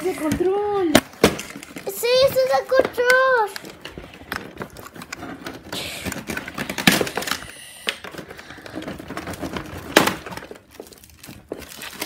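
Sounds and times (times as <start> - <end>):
cardboard and plastic rustling: 0.0 - 12.0.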